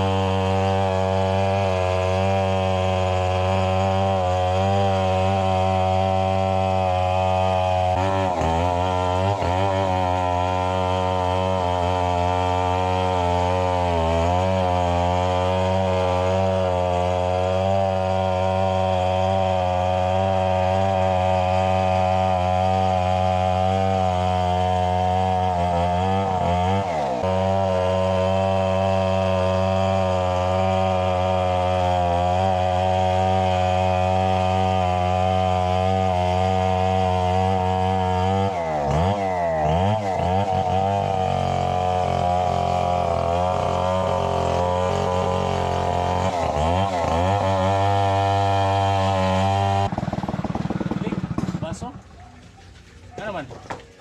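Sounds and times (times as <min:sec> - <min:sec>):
chainsaw cutting under load: 0:00.0 - 0:54.0.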